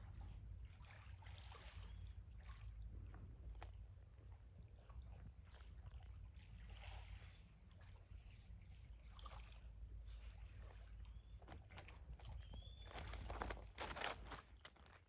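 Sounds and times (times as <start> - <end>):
low steady rumble: 0.0 - 15.0
water splashing and trickling: 0.0 - 15.0.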